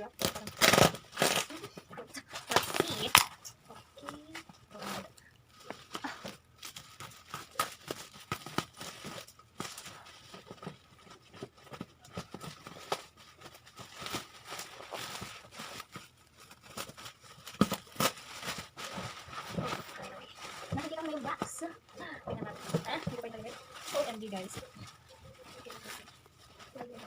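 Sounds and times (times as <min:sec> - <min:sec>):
bubble wrap crinkling and tearing: 0:00.0 - 0:27.0.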